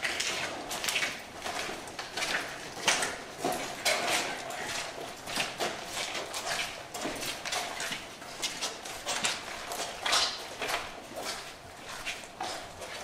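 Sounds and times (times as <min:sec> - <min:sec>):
footsteps on gritty concrete: 0:00.0 - 0:13.0.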